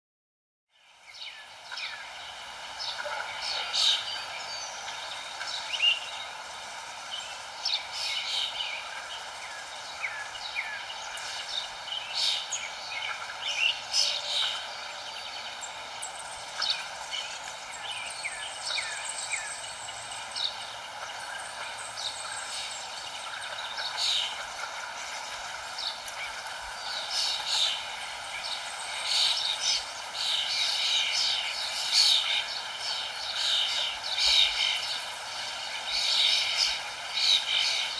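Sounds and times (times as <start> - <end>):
songbirds chirping: 0.7 - 37.9
steady background hiss: 0.7 - 37.9.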